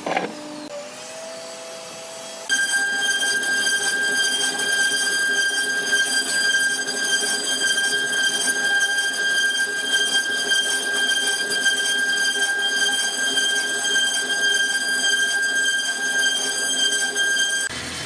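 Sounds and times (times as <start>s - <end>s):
power tool whining: 0.0s - 18.0s.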